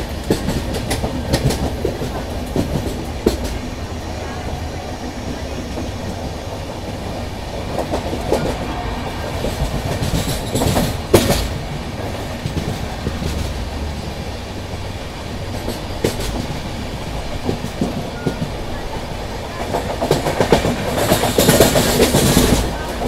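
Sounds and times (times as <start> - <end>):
clickety-clack of rail joints: 0.0 - 23.0
train wheels rumbling on rails: 0.0 - 23.0.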